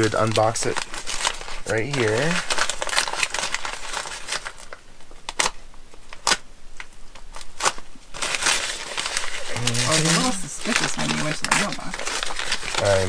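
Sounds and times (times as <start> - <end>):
paper crinkling and tearing: 0.0 - 13.0
sharp paper crackles: 0.0 - 13.0.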